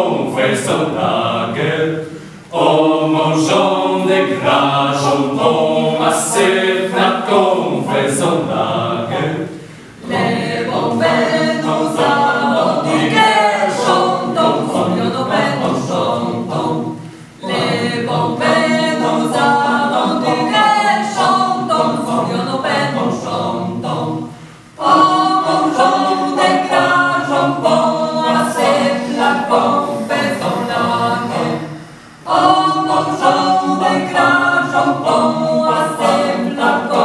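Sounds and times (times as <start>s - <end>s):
mixed choir singing a cappella: 0.0s - 37.0s.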